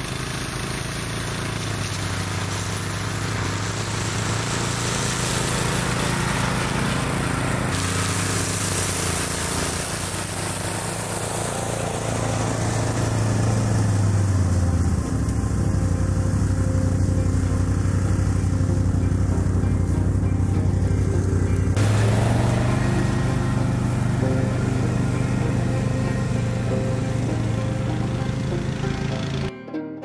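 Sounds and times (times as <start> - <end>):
brushcutter mowing tall grass: 0.0 - 29.5.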